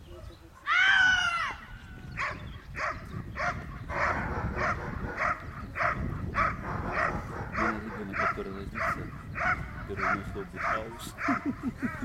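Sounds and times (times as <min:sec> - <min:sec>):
dog barking: 0:02.2 - 0:12.0.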